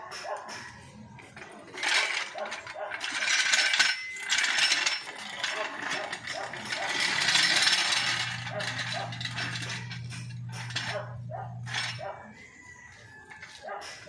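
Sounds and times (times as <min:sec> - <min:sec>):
metal floor jack clinking: 0:00.1 - 0:12.2.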